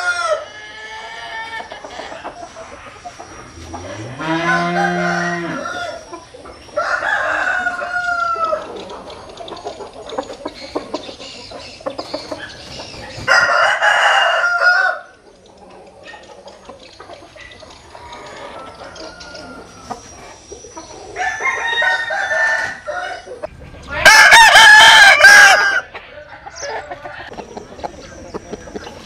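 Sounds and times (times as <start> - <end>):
roosters crowing: 0.0 - 9.2, 10.5 - 15.2, 17.7 - 27.4.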